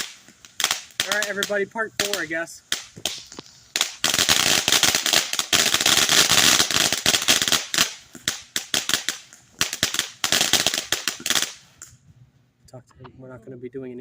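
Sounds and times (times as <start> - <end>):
fireworks crackling: 0.0 - 12.1.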